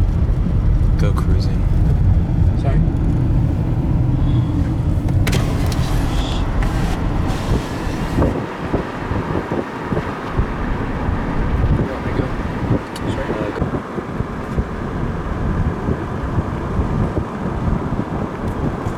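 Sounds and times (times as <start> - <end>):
car road and engine rumble: 0.0 - 18.9.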